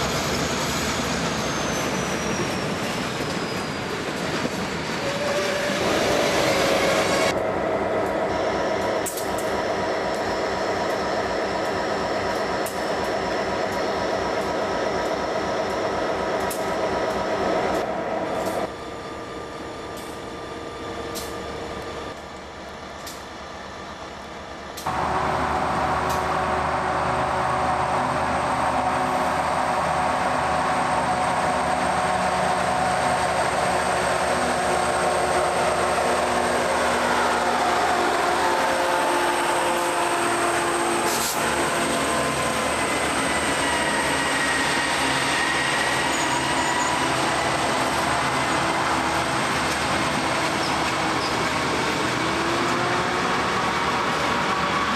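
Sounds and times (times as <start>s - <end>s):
train passing by: 0.0s - 54.9s
diesel locomotives idling: 7.3s - 54.9s.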